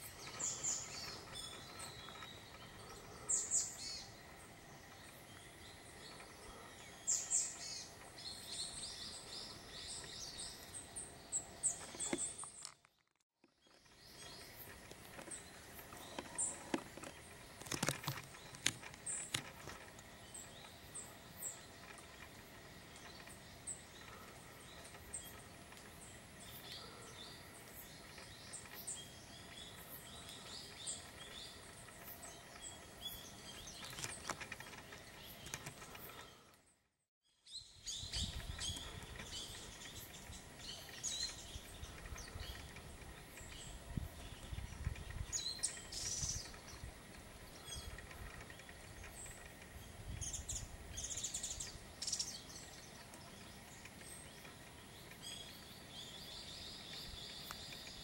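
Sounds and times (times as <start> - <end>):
birds chirping: 0.0 - 12.8, 13.5 - 36.8, 37.4 - 58.0.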